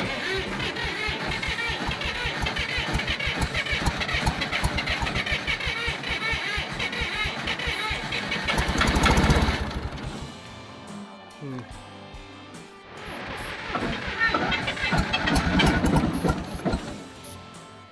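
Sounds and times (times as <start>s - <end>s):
bulldozer engine chugging: 0.0s - 12.3s, 12.9s - 17.6s.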